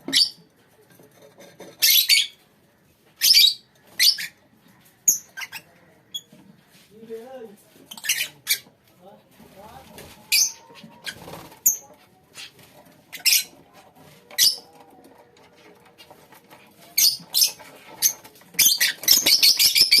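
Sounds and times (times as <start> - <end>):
lovebirds chirping: 0.0 - 0.9, 1.7 - 8.9, 10.0 - 20.0.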